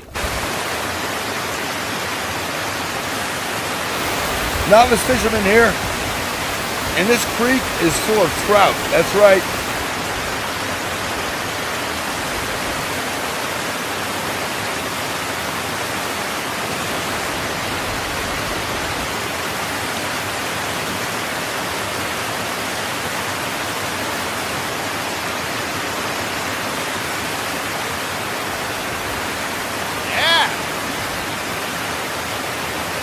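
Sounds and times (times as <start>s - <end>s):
creek water rushing: 0.0s - 33.0s.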